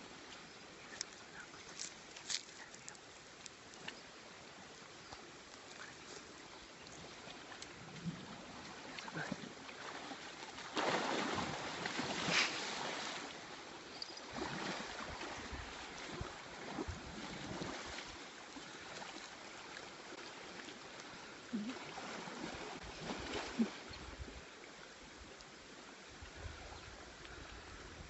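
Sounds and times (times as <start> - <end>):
water splashing and sloshing: 0.0 - 27.2
low outdoor hiss: 0.0 - 28.0.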